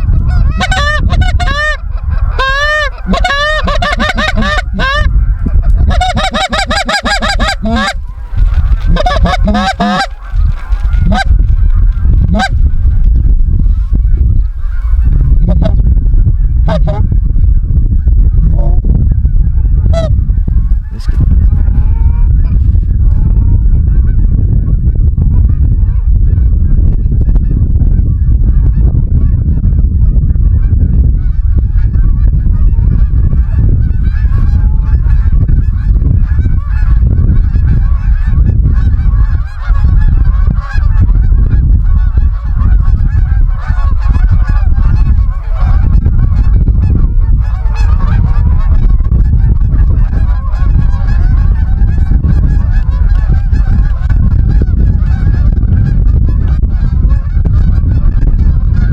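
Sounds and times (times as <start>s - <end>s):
loud low rumble: 0.0s - 58.9s
geese honking: 0.1s - 12.9s, 13.6s - 17.1s, 19.6s - 24.4s, 31.2s - 58.9s.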